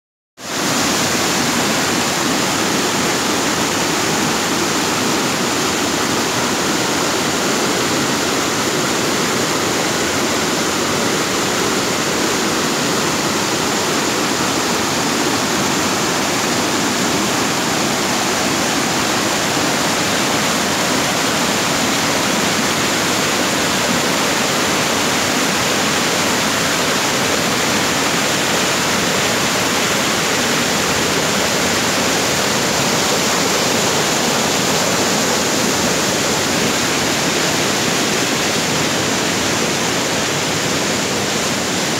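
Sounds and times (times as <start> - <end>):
water rushing over rocks: 0.4 - 41.9.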